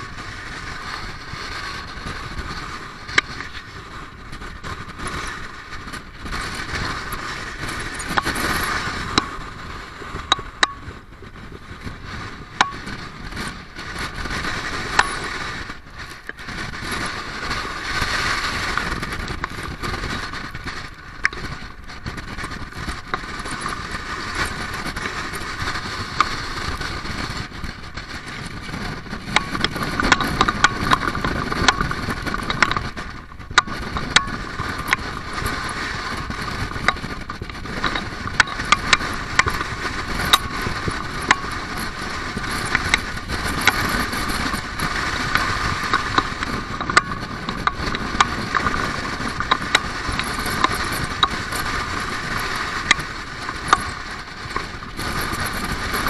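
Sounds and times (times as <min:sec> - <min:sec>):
sharp clicks and ticks: 0:00.0 - 0:56.0
strong wind rushing: 0:00.0 - 0:56.0.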